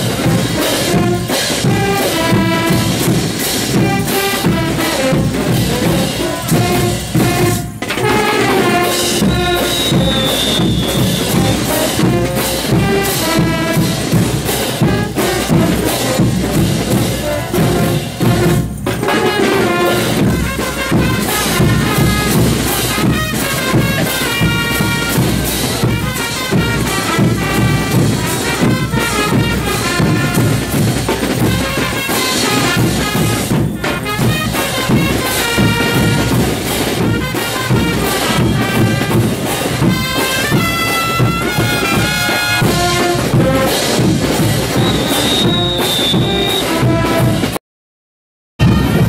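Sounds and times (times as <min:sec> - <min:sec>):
bass drums: 0:00.0 - 0:47.6, 0:48.6 - 0:49.0
street brass band playing: 0:00.0 - 0:47.6, 0:48.6 - 0:49.0.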